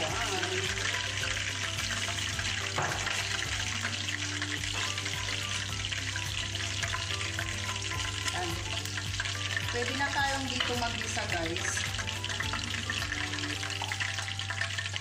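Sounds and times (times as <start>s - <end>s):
metal tongs stirring: 0.0s - 15.0s
oil sizzling in a frying pan: 0.0s - 15.0s.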